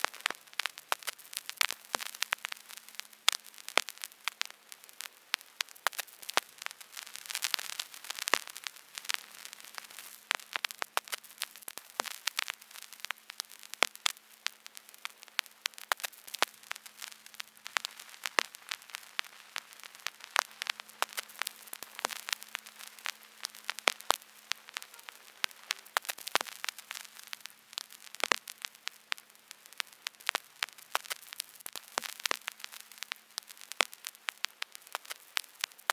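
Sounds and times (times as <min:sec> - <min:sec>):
vinyl record crackle and hiss: 0:00.0 - 0:35.9
vinyl record pops: 0:00.0 - 0:35.9.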